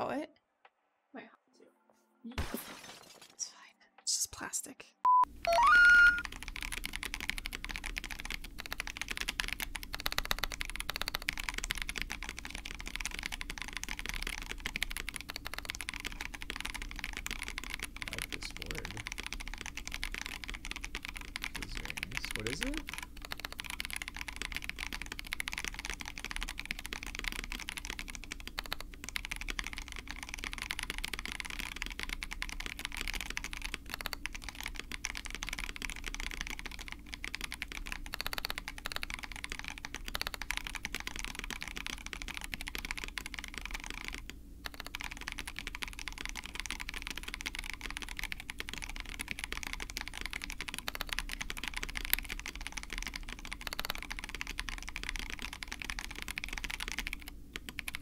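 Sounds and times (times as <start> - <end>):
mechanical keyboard typing: 5.5 - 58.0.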